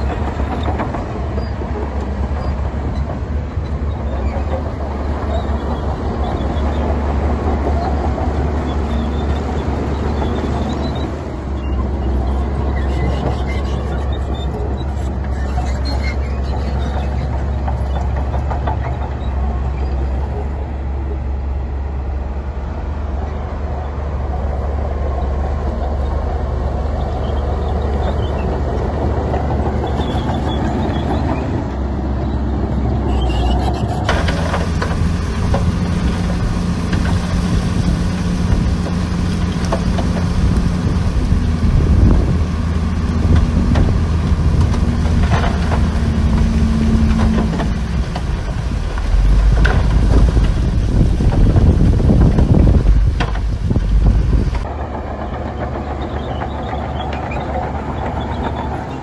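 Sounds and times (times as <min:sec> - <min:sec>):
diesel engine drone: 0:00.0 - 0:59.0
machinery rattling and clatter: 0:00.0 - 0:59.0.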